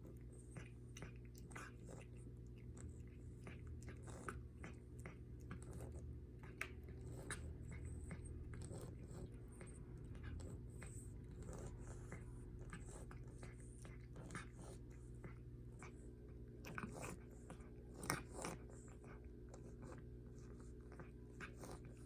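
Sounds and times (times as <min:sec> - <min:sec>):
cat chewing food: 0:00.0 - 0:22.0
steady low hum: 0:00.0 - 0:22.0.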